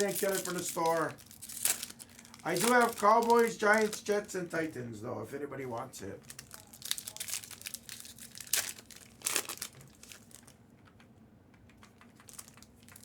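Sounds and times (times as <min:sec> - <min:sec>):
plastic wrapping crinkling: 0:00.0 - 0:04.8, 0:06.2 - 0:11.0, 0:11.6 - 0:13.0.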